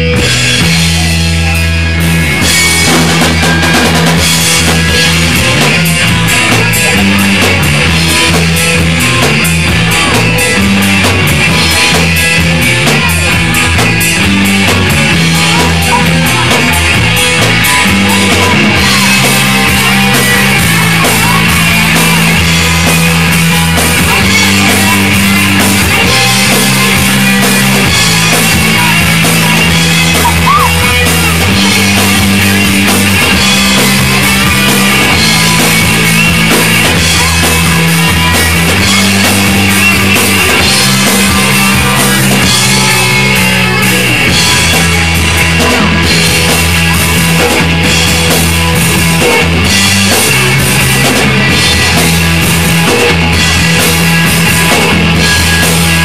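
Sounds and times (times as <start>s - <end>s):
drum kit with cymbal hits: 0.0s - 56.0s
electric bass line: 0.0s - 56.0s
electric guitars: 0.0s - 56.0s.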